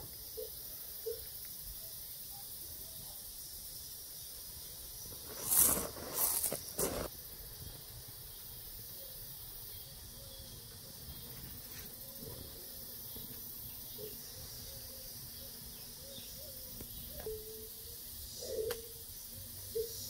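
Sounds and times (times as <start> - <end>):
faint high hiss: 0.0 - 20.0.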